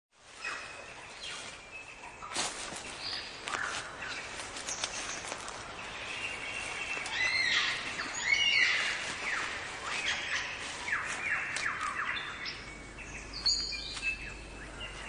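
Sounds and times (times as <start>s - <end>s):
birds calling: 0.3s - 15.0s.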